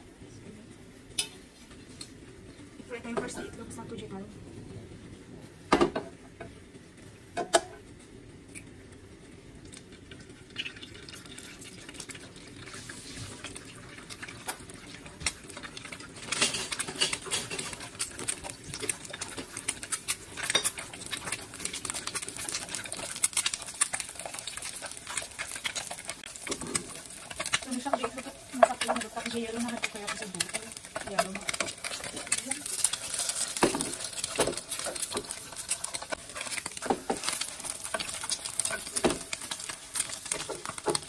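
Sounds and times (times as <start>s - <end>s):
egg sizzling in hot oil: 0.8s - 4.2s, 4.9s - 41.0s.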